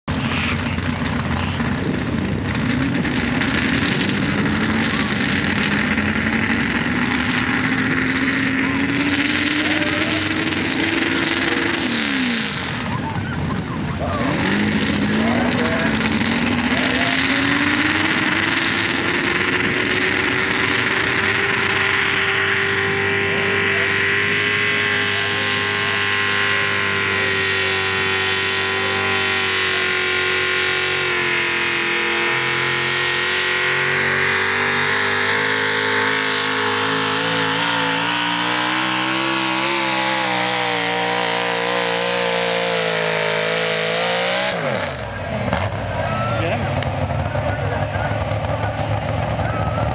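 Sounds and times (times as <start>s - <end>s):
truck engine at full throttle: 0.0s - 49.9s.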